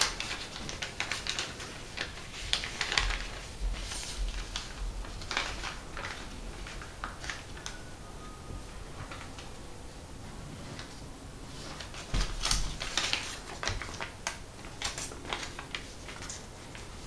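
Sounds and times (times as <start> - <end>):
paper crinkling and rustling: 0.0 - 17.0.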